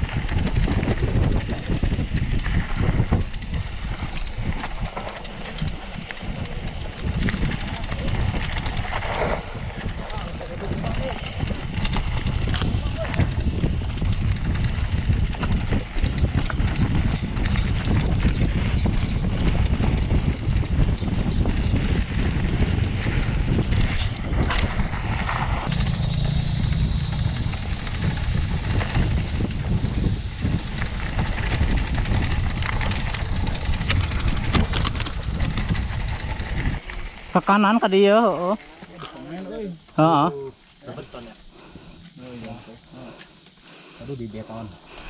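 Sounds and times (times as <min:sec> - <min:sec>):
wind buffeting microphone: 0:00.0 - 0:38.4
bike rattling over bumps: 0:00.0 - 0:39.5.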